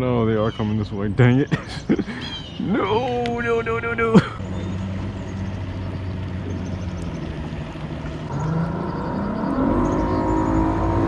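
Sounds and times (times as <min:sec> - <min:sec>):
motorboat engine running: 0:01.9 - 0:11.0.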